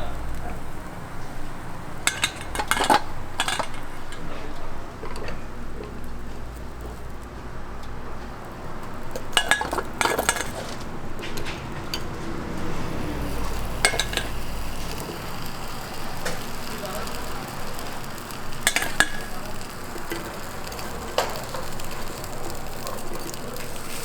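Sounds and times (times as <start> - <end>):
metal utensils clattering: 0.0 - 6.0, 8.6 - 24.0.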